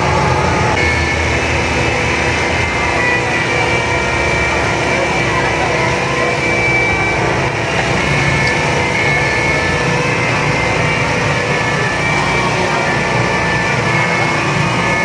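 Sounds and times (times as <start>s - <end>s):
faint whines: 0.0s - 15.0s
motor engine humming: 0.0s - 15.0s.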